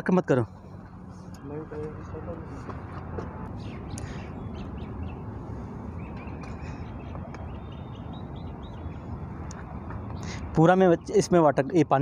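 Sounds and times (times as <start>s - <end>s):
steady low rumble: 0.0s - 10.3s
birds calling: 0.0s - 12.0s.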